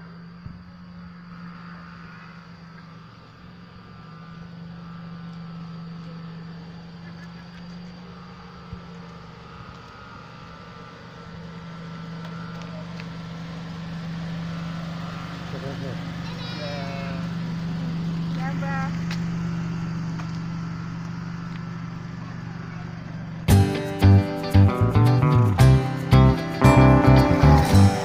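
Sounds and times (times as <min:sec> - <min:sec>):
small car engine running: 0:00.0 - 0:28.0.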